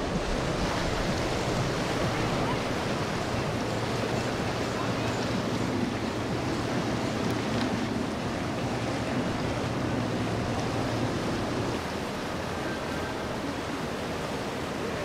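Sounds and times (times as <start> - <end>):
boat engine hum: 0.0 - 15.0
boat wake rushing: 0.0 - 15.0.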